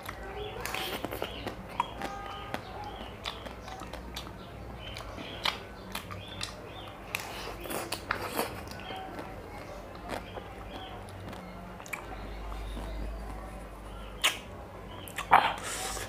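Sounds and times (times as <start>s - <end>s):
mouth sounds of eating: 0.0s - 16.0s.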